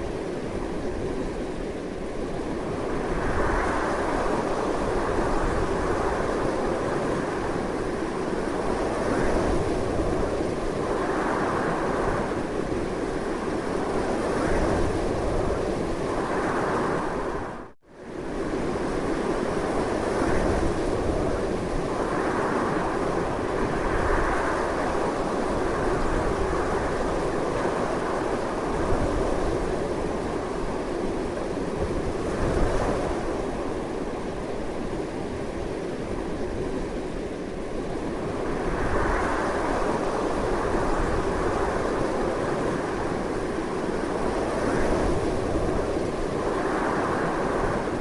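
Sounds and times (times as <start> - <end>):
strong gusty wind: 0.0 - 48.0.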